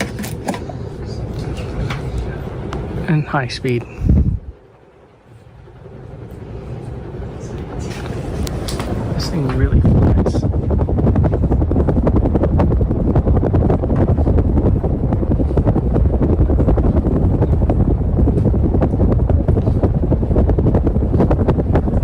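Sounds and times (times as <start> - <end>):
ceiling fan rushing air: 0.0 - 22.0.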